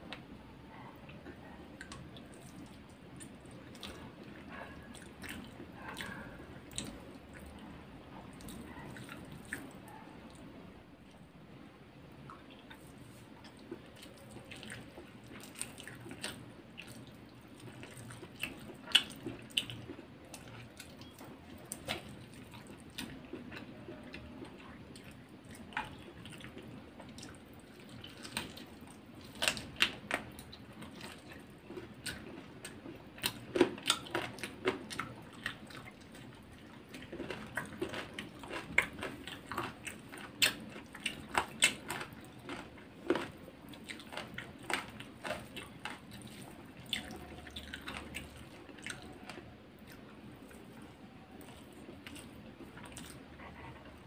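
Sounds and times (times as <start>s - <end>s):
chewing with lip smacks: 0.1s - 11.2s, 12.2s - 54.0s.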